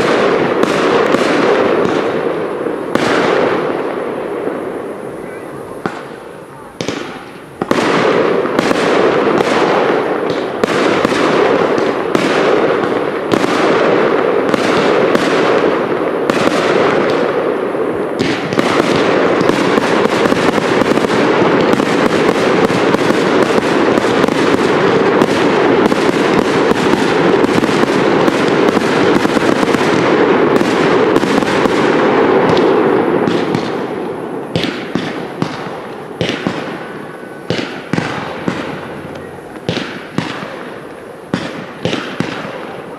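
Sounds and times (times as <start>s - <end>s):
fireworks barrage: 0.0s - 42.9s.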